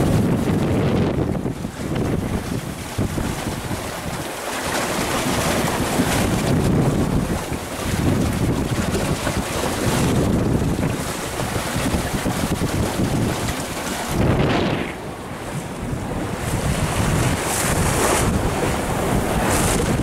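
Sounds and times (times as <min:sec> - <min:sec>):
water rushing along hull: 0:00.0 - 0:20.0
wind buffeting microphone: 0:00.0 - 0:20.0.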